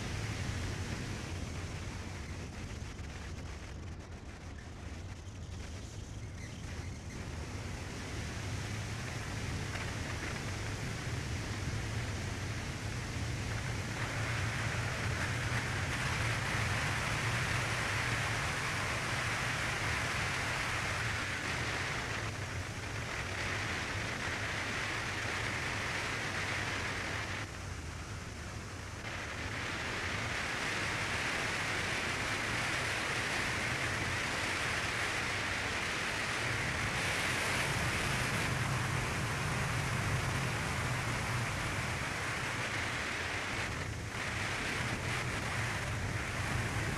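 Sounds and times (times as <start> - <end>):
wind and road noise: 0.0 - 46.9.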